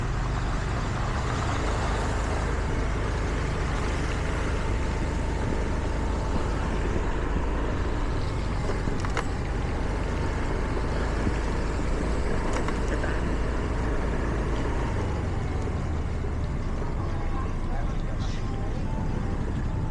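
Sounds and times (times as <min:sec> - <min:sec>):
car driving on wet road: 0:00.0 - 0:19.9.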